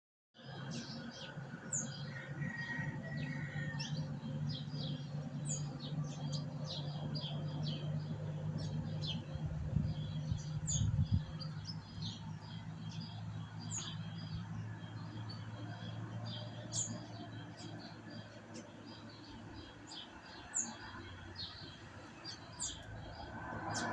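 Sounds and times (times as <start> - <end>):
small birds chirping: 0.4 - 23.9.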